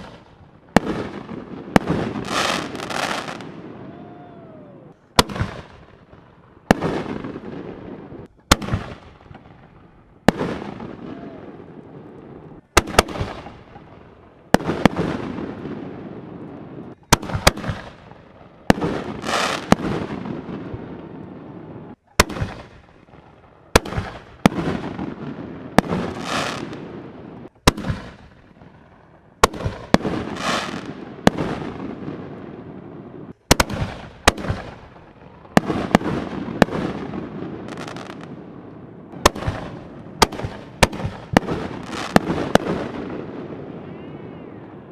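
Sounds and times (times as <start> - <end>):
fireworks hiss and crackle: 0.0 - 43.8
fireworks bangs: 0.0 - 44.9.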